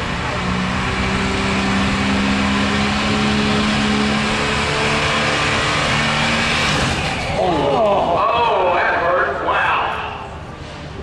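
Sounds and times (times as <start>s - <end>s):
diesel truck engine running hard: 0.0s - 11.0s.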